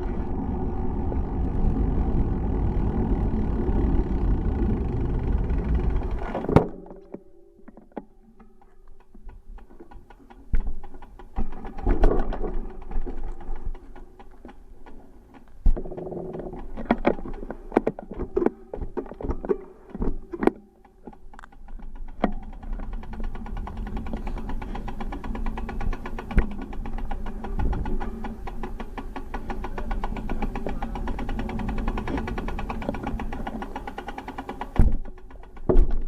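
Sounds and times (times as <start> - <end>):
fast steady ticking: 1.1 - 6.3, 8.3 - 36.0
knocks and rattles: 4.8 - 36.0.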